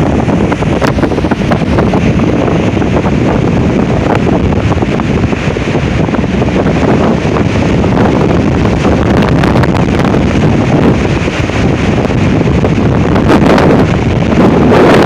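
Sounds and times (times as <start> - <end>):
strong wind on microphone: 0.0 - 15.0.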